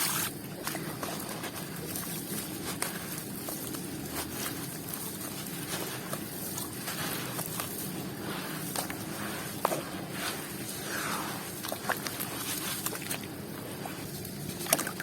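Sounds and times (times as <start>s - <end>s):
dry material crunching: 0.0s - 15.0s.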